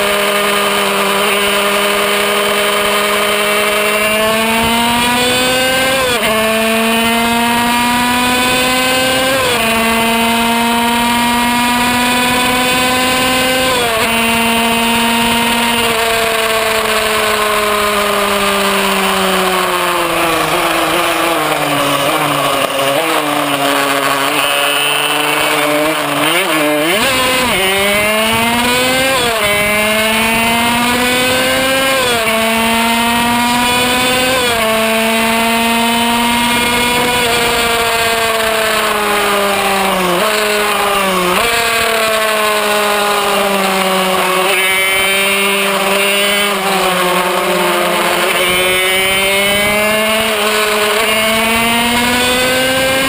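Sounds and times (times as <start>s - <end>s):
two-stroke engine revving: 0.0s - 53.0s.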